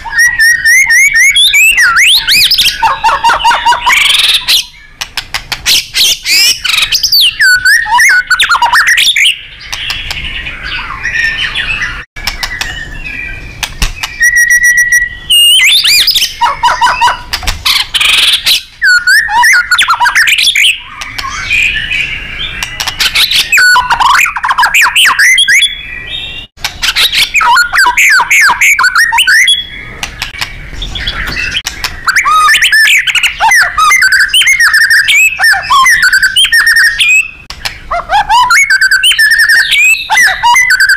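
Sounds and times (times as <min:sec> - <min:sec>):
bird singing whistles and trills: 0:00.0 - 0:40.9
steady whistled bird note: 0:05.7 - 0:37.5, 0:38.4 - 0:40.9.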